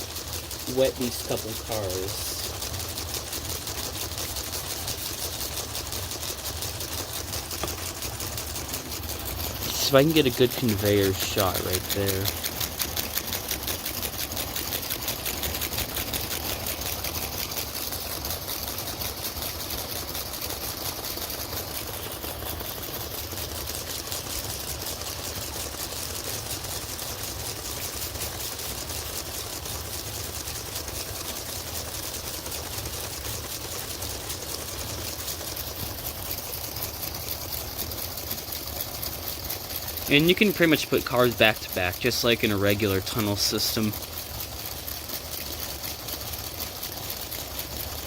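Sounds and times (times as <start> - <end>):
electric motors whirring: 0.0 - 48.0
plastic gears ticking: 0.0 - 48.0.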